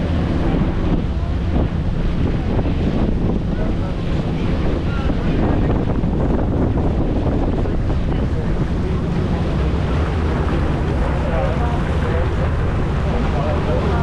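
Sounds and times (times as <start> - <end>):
boat engine running: 0.0 - 14.0
water wash: 0.0 - 14.0
wind rushing over microphone: 0.0 - 14.0.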